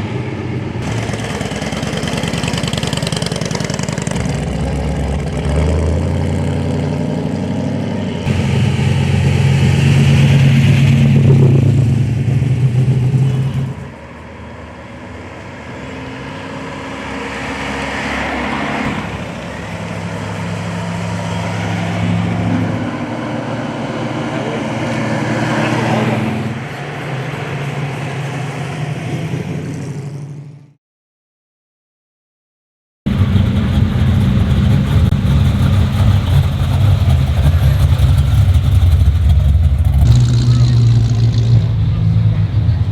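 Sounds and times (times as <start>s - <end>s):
car engines revving: 0.0s - 30.7s, 33.1s - 42.9s
deep car engine: 0.0s - 30.8s, 33.1s - 42.9s.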